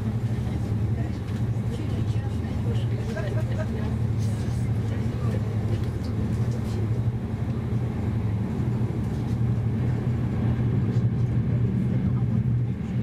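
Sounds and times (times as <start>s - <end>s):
train running rumble and hum: 0.0s - 13.0s.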